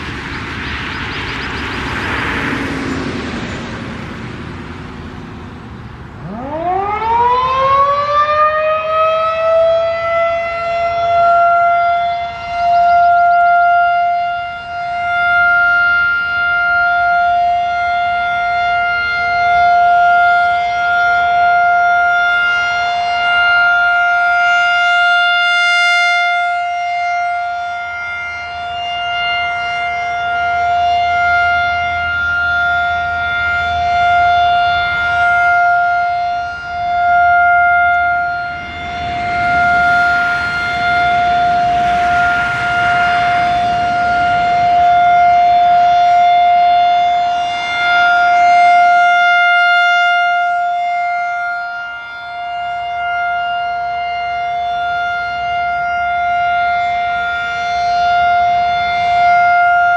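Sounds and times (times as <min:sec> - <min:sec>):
rotating warning siren: 0:00.0 - 0:59.9.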